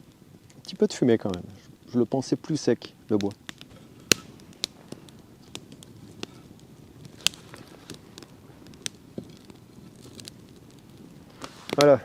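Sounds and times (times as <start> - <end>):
campfire crackling: 0.0 - 12.0
sharp pops of fire: 0.0 - 12.0.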